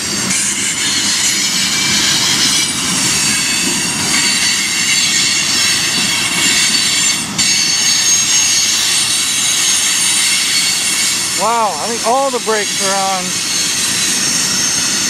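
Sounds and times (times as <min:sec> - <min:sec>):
train brakes squealing: 0:00.0 - 0:15.0
train wheels rumbling and clattering: 0:00.0 - 0:15.0.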